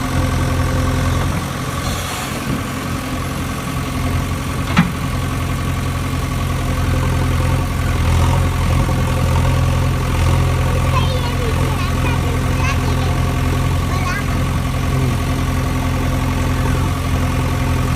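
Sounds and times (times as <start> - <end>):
engine idling: 0.0 - 17.9.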